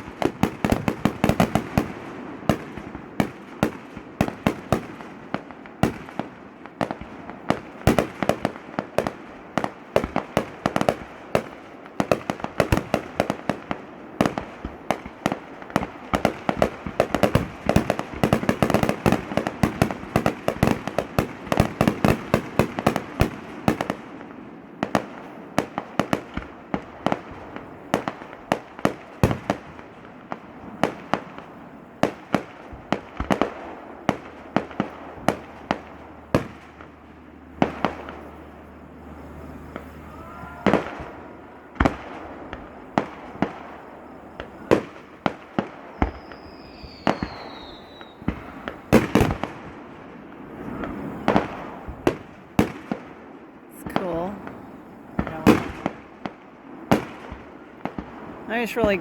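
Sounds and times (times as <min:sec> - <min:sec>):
fireworks bangs and cracks: 0:00.0 - 0:59.0.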